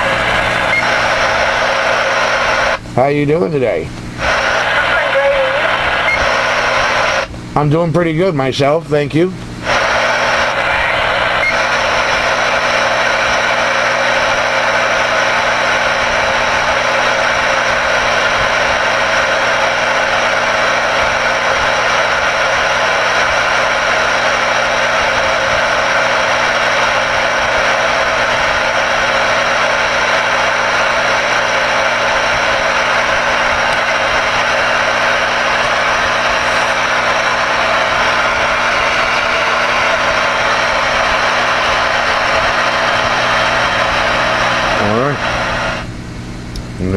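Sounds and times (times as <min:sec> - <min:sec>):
droning buzz: 0:00.0 - 0:03.0, 0:03.6 - 0:46.9
radio static hiss: 0:00.0 - 0:46.0.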